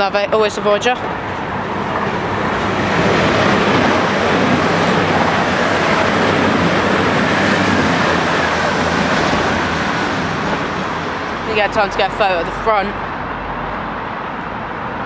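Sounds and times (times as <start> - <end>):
train rushing past: 0.0 - 15.0
low diesel engine drone: 1.0 - 15.0.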